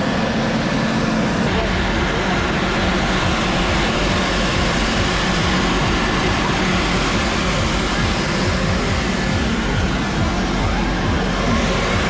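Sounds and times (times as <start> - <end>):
snow machine blowing: 0.0 - 12.0.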